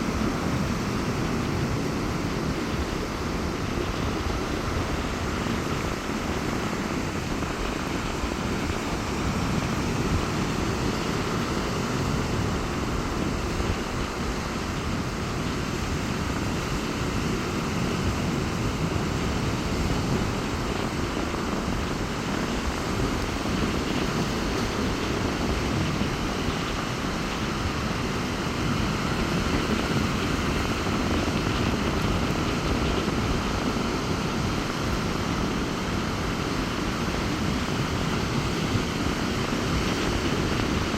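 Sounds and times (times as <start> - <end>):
heavy surf breaking: 0.0 - 40.9
strong wind: 0.0 - 40.9.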